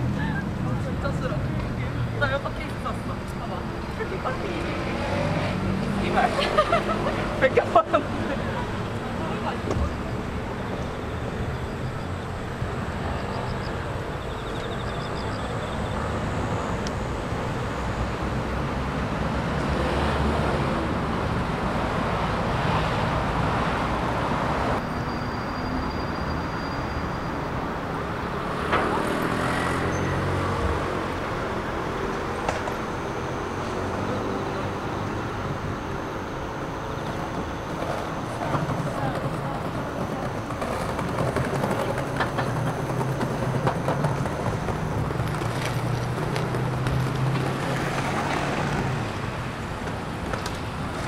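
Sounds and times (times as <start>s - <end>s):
steady hum of cars: 0.0s - 51.0s
vehicles passing: 0.0s - 51.0s.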